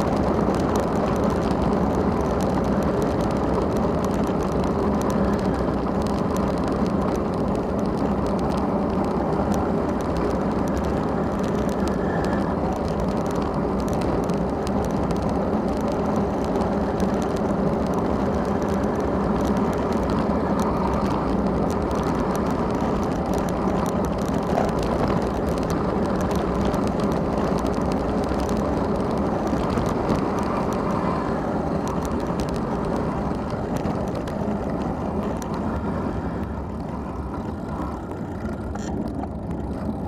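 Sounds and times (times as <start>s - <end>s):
bicycle tyre rumble: 0.0s - 40.0s
small rattles and clicks: 0.0s - 40.0s
wind rushing on microphone: 0.0s - 40.0s.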